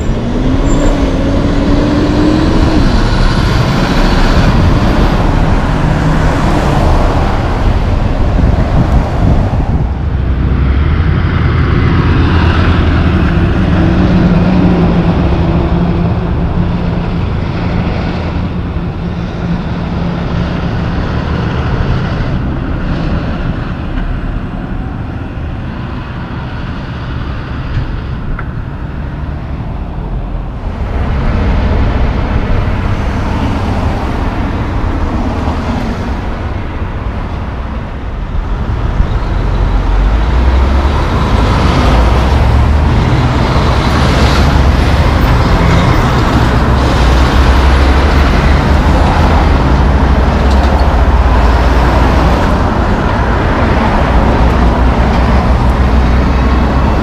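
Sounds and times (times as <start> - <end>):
diesel truck passing: 0.0 - 57.0
passing traffic: 0.0 - 57.0.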